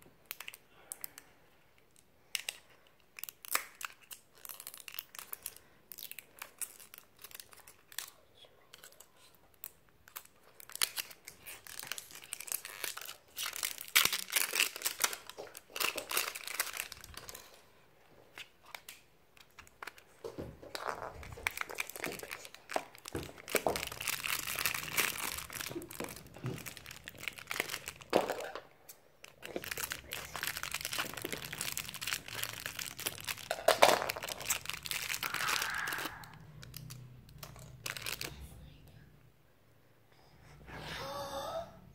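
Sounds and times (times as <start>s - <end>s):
plastic wrappers crumpling and tearing: 0.2s - 1.3s, 1.9s - 17.7s, 18.3s - 38.4s.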